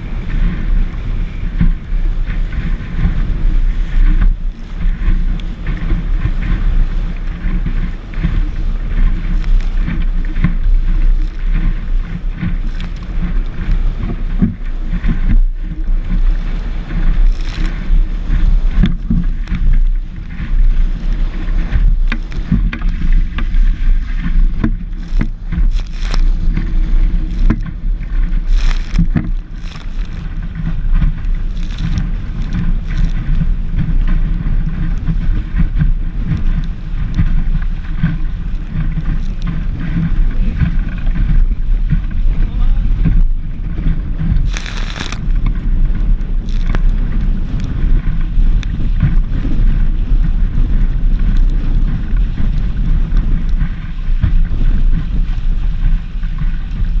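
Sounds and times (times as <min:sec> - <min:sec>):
water slapping hull: 0:00.0 - 0:57.0
wind buffeting microphone: 0:00.0 - 0:57.0.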